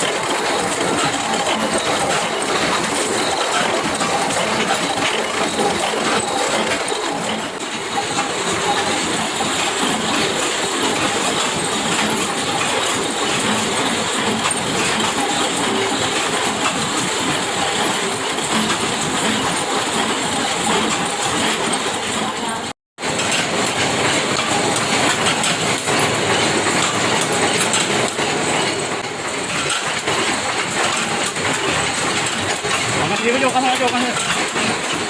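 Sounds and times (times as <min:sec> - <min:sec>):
workshop machinery running: 0:00.0 - 0:35.0.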